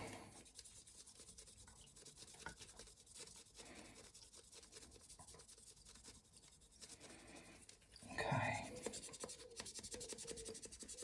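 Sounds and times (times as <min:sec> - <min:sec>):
sanding pad rubbing on pipe stem: 0:00.3 - 0:07.3, 0:08.8 - 0:11.0.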